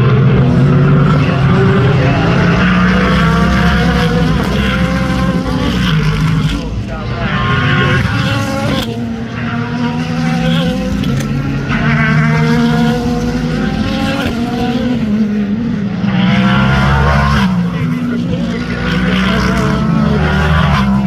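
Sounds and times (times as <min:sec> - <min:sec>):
race car engines at full throttle: 0:00.0 - 0:21.0.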